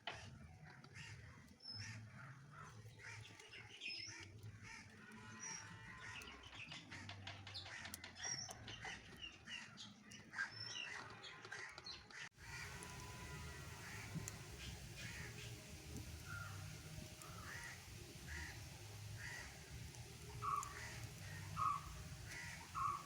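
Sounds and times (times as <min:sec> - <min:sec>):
small birds chirping: 0:00.1 - 0:23.0
burning logs crackling: 0:00.7 - 0:09.2, 0:12.4 - 0:23.0.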